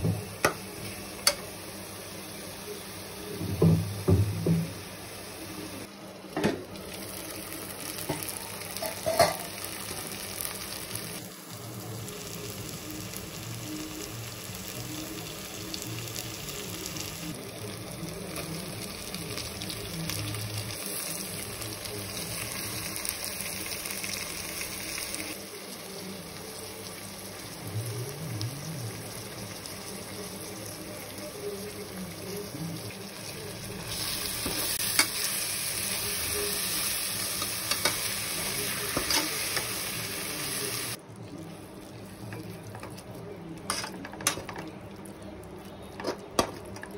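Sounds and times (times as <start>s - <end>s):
food sizzling in oil: 0.0s - 44.4s.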